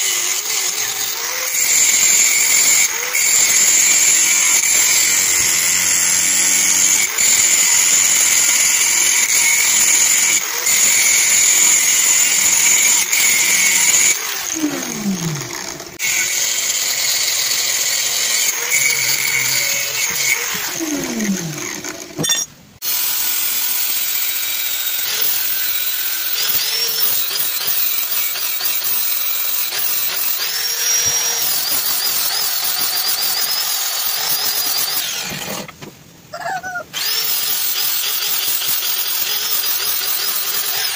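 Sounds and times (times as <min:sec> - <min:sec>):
angle grinder cutting steel: 0:00.0 - 0:35.8, 0:37.0 - 0:40.9.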